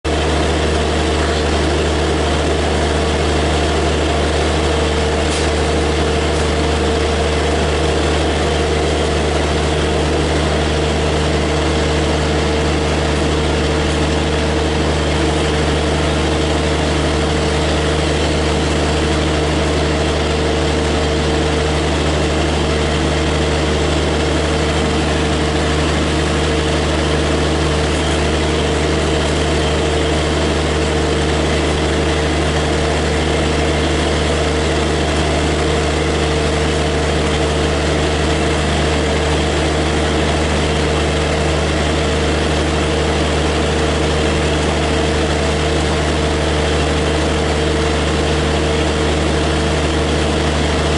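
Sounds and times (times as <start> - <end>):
electric locomotive humming: 0.1 - 50.9.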